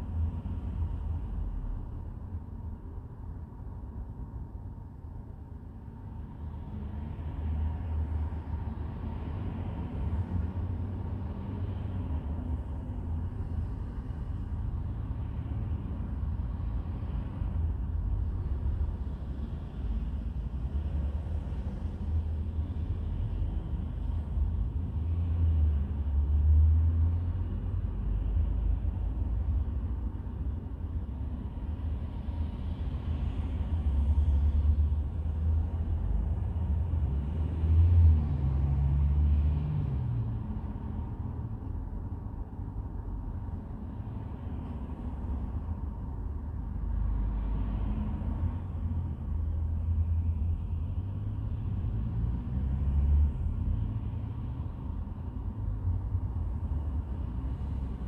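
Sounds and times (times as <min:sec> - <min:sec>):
diesel bus engine rumble: 0:00.0 - 0:58.0.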